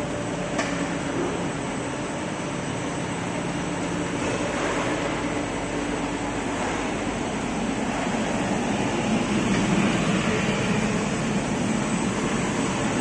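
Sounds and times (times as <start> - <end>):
machinery whirring and humming: 0.0 - 13.0.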